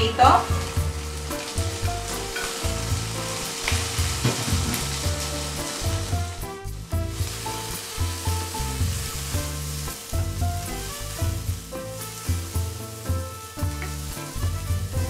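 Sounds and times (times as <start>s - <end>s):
background music with bass line: 0.0s - 15.0s
vegetables sizzling in oil: 0.0s - 15.0s.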